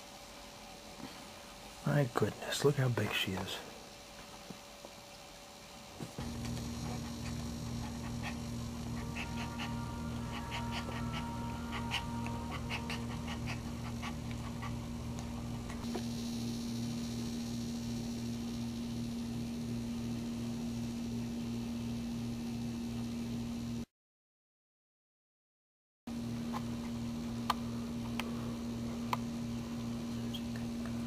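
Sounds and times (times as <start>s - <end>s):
steady low hum: 0.0s - 23.9s, 26.1s - 31.0s.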